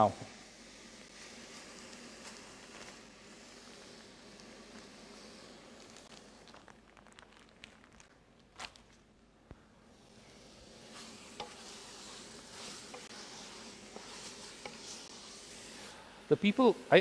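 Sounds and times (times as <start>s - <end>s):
chicken sizzling in a pot: 0.0s - 8.0s, 9.9s - 17.0s.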